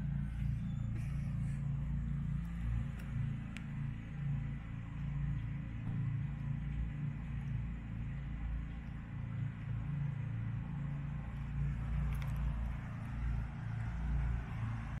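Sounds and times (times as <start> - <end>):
sports car engine idling: 0.0 - 15.0.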